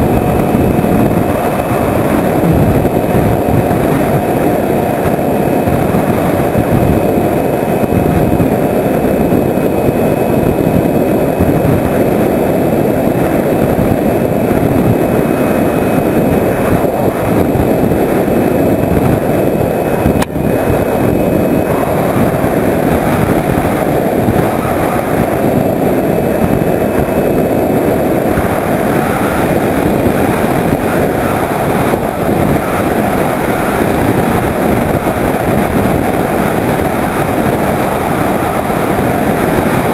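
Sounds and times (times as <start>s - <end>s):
electric motor and propeller: 0.0s - 39.9s
faint high whine: 0.0s - 39.9s
wind rush: 0.0s - 39.9s.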